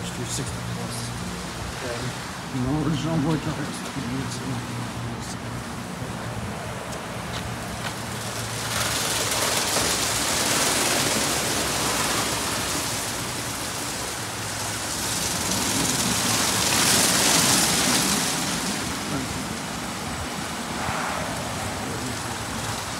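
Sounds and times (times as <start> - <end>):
car wash water spray hissing: 0.0 - 22.9.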